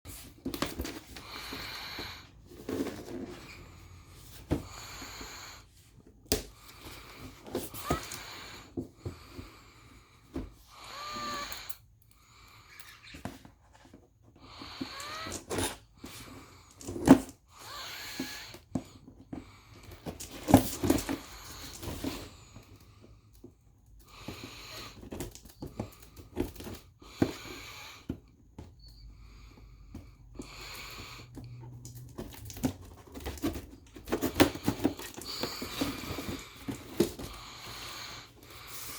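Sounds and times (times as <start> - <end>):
plastic and cardboard packaging rustling: 0.1 - 9.6, 12.8 - 28.2, 30.7 - 38.9.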